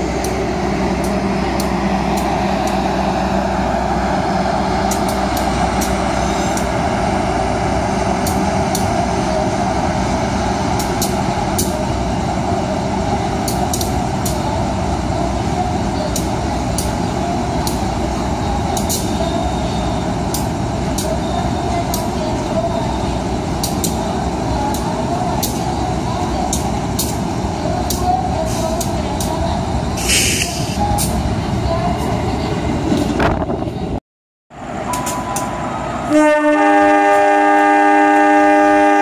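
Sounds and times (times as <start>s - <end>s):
train rolling past: 0.0s - 34.0s, 34.6s - 39.0s
diesel locomotive engine running: 0.0s - 39.0s.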